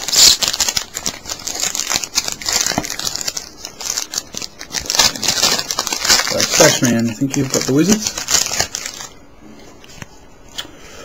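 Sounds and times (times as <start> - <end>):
foil wrappers crinkling: 0.0 - 9.2.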